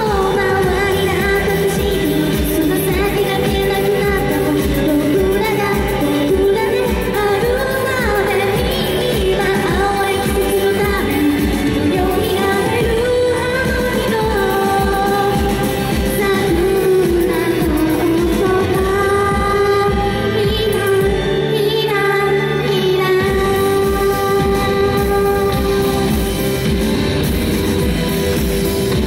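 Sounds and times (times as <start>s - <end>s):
woman singing into microphone: 0.0s - 26.9s
backing music: 0.0s - 29.0s.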